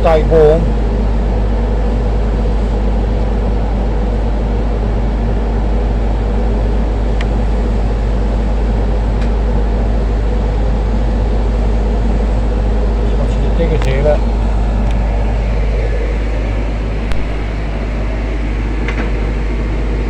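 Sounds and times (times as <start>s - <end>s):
vehicle rumble inside cab: 0.0s - 20.0s.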